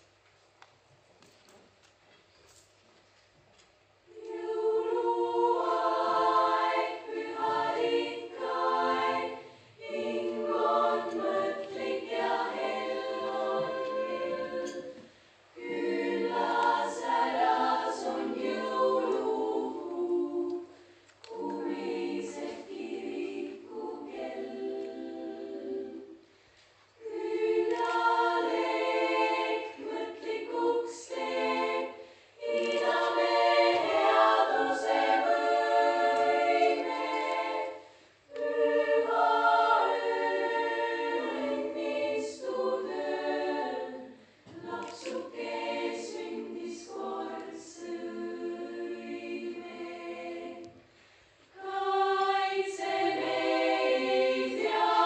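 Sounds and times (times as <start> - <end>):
choir singing: 4.1 - 26.4, 27.0 - 55.0.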